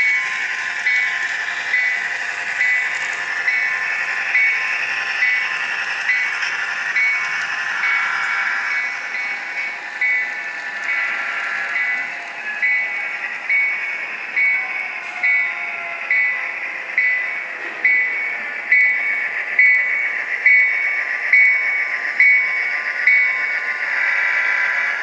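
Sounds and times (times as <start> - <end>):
model locomotive bell ringing: 0.0 - 25.0
model train running: 0.0 - 25.0.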